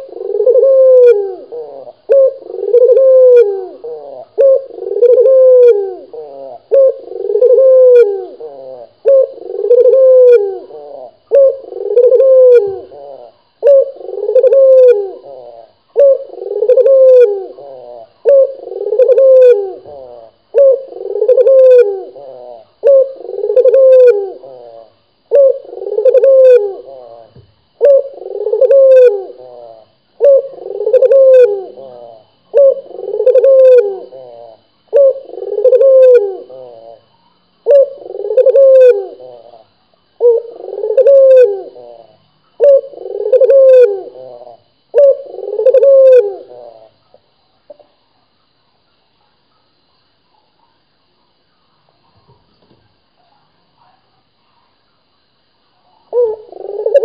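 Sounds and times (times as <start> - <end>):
dove cooing: 0.0 - 47.9, 55.9 - 57.0.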